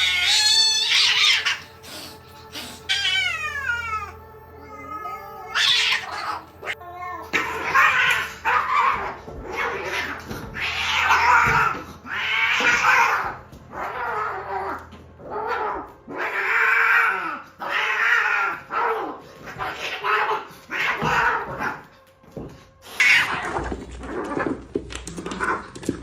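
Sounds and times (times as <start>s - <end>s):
cat yowling: 0.0s - 21.9s.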